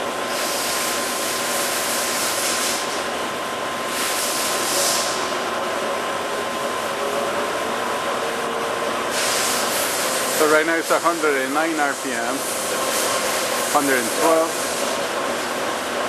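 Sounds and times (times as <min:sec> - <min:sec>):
lathe running: 0:01.0 - 0:16.0.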